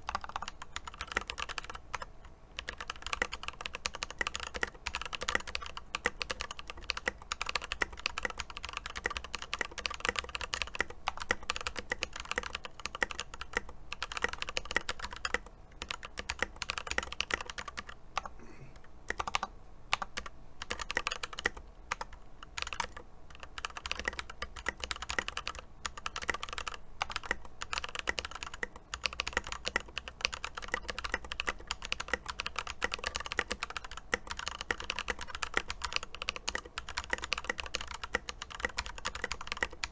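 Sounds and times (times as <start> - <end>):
mechanical keyboard typing: 0.0 - 18.3, 19.1 - 39.9.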